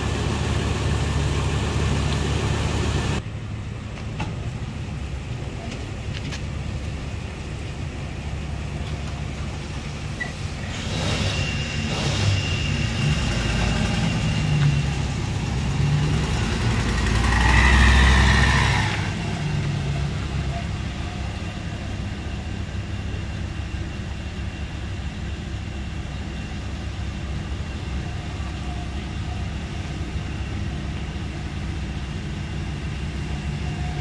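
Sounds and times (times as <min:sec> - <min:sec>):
truck engine idling: 0:00.0 - 0:34.0
truck pulling away: 0:00.0 - 0:34.0.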